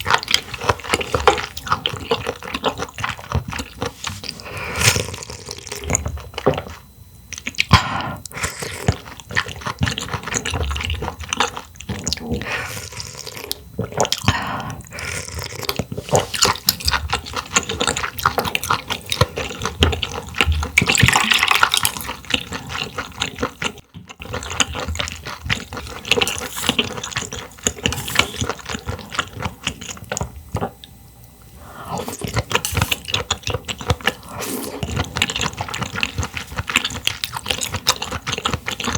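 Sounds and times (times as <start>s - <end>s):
person chewing and slurping: 0.0s - 30.9s, 31.5s - 38.9s.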